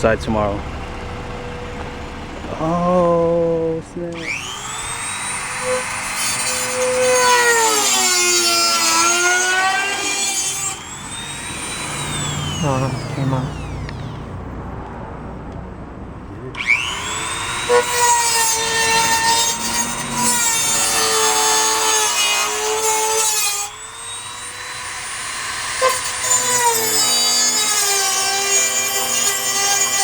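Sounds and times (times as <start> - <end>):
power tool whining and cutting metal: 0.0 - 14.4, 16.5 - 30.0.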